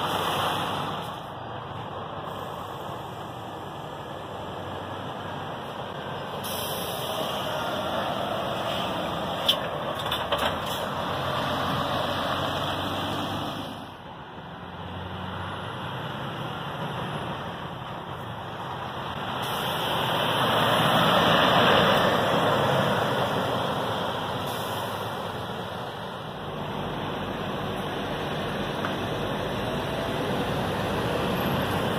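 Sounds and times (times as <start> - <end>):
lorries driving past: 0.0 - 31.9.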